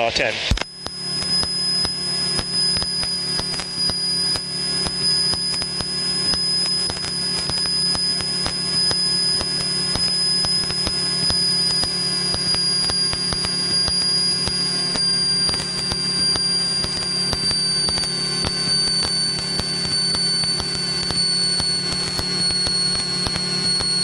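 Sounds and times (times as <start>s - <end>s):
high-pitched whine: 0.0s - 24.0s
plane piston engine droning: 0.0s - 24.0s.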